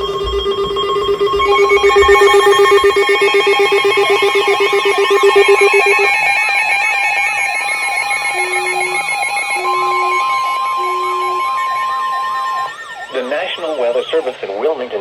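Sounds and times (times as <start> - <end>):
pulsing electronic buzz: 0.0 - 14.4
short low beeps: 0.0 - 14.4
steady high alert tone: 0.0 - 15.0
warbling siren-like tone: 0.0 - 15.0.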